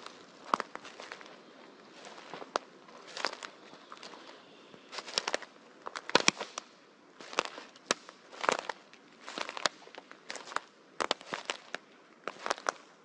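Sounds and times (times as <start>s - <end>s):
footsteps snapping twigs: 0.0s - 13.0s.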